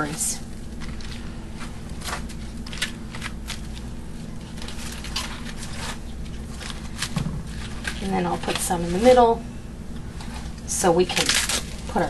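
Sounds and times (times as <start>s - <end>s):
lettuce leaves crackling: 0.0s - 12.0s
steady low hum: 0.0s - 12.0s.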